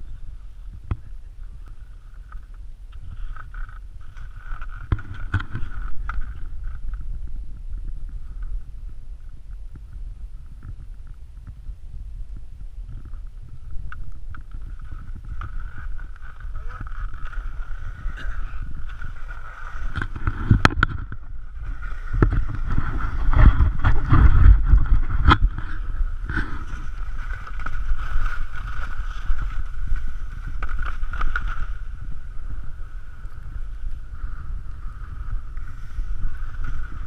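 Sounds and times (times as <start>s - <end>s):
wind buffeting microphone: 0.0s - 37.0s
skis sliding on hard snow: 1.5s - 7.2s, 13.0s - 37.0s.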